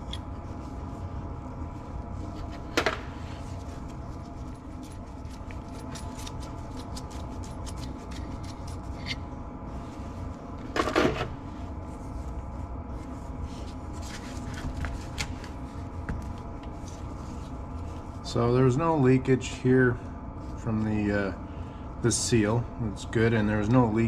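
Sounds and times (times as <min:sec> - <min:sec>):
steady shop hum: 0:00.0 - 0:24.0.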